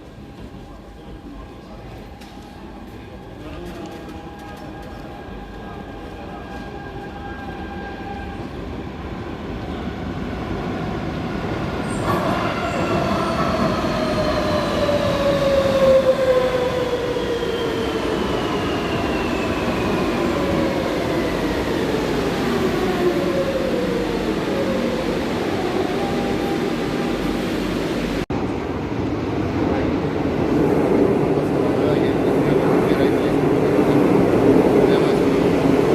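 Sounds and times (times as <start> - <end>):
metro train rumble: 0.0 - 35.9.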